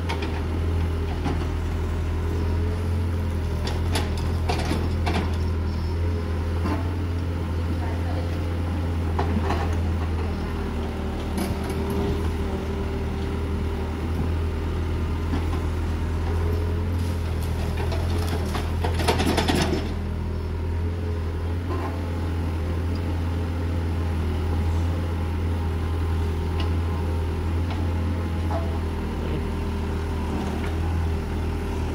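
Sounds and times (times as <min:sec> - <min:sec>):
excavator diesel engine: 0:00.0 - 0:31.9.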